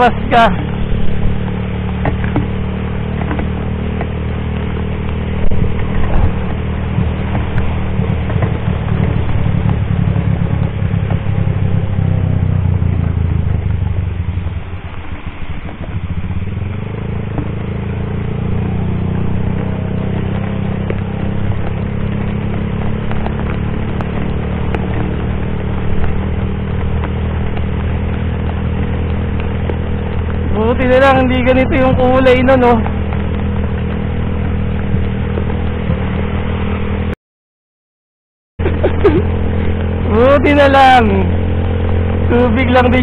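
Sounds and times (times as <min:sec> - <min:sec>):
motorcycle engine running: 0:00.0 - 0:37.2, 0:38.6 - 0:43.0
rain and road spray hiss: 0:00.0 - 0:37.2, 0:38.6 - 0:43.0.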